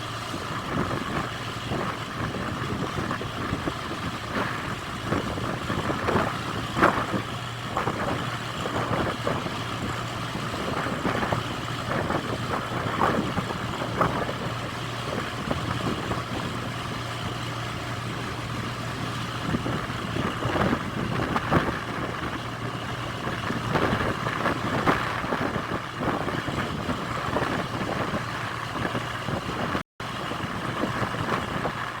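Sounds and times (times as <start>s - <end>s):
engine idling hum: 0.0s - 32.0s.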